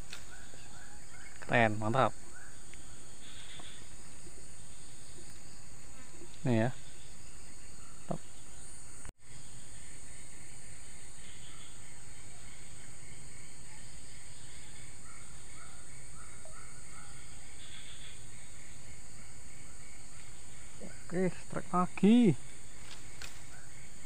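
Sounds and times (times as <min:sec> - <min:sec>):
faint bird chirps: 0:00.0 - 0:24.0
insect chirring: 0:00.0 - 0:24.0
background hiss: 0:01.4 - 0:24.0.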